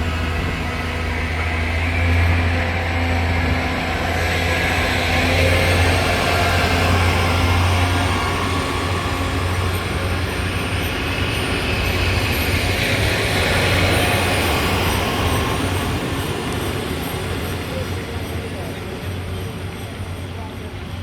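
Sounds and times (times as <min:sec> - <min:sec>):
low engine rumble: 0:00.0 - 0:21.0
wheel and rail noise: 0:00.0 - 0:21.0.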